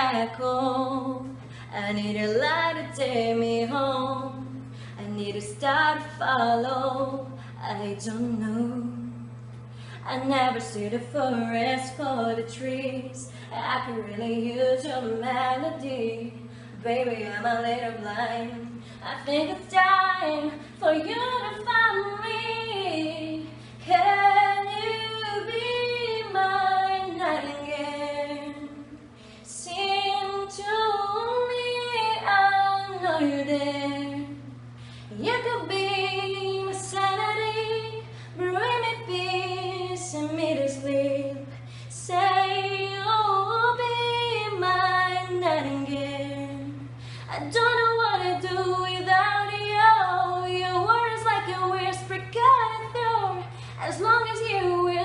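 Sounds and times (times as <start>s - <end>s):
low hum: 0.0s - 55.0s
woman singing into microphone: 0.0s - 55.0s.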